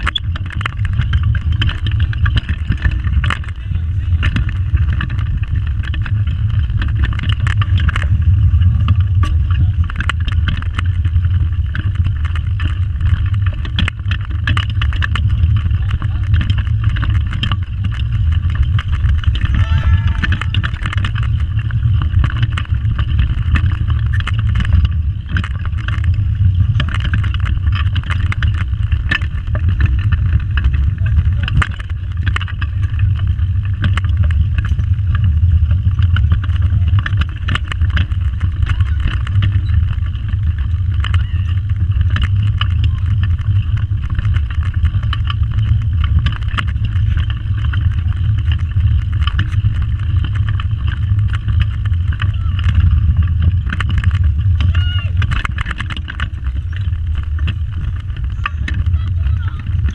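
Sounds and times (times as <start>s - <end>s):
go-kart rolling low rumble: 0.0s - 59.9s
small rattles and clicks: 0.0s - 59.9s.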